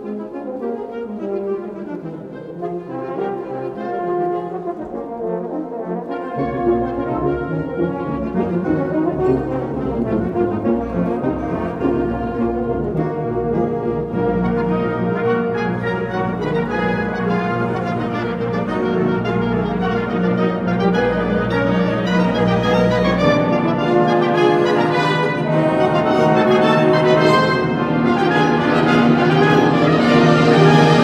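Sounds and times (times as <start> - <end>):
orchestral music led by brass: 0.0 - 31.0.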